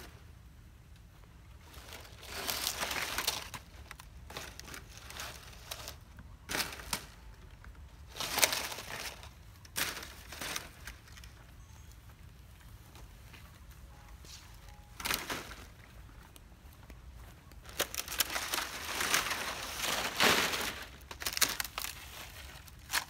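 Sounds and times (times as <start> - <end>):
dry palm fronds rustling: 1.1 - 23.0.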